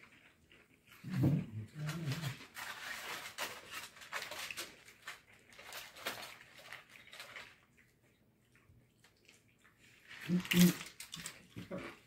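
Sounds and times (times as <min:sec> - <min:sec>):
tortilla chips crunching: 0:01.8 - 0:12.0.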